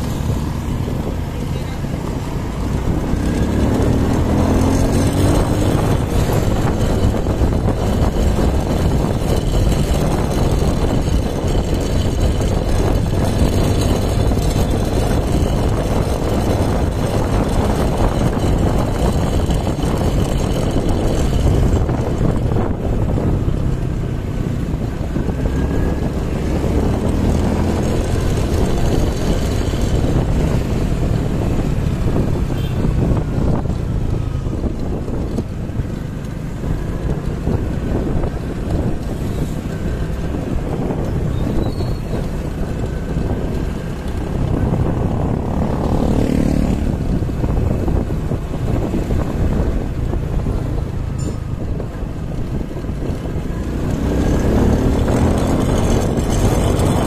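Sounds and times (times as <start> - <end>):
vehicle engine and road noise: 0.0 - 57.0
wind buffeting microphone: 0.0 - 57.0.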